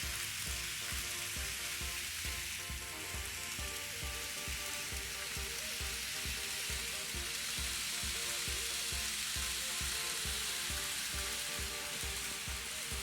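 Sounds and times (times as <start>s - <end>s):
background music with low beat: 0.0s - 13.0s
model train running on track: 0.0s - 13.0s.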